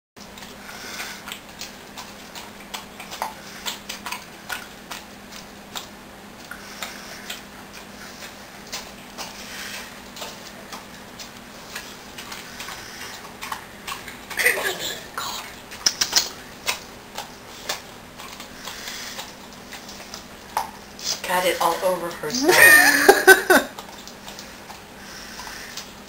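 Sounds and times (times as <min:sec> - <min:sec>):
dog licking and smacking: 0:00.2 - 0:21.2, 0:23.7 - 0:26.0.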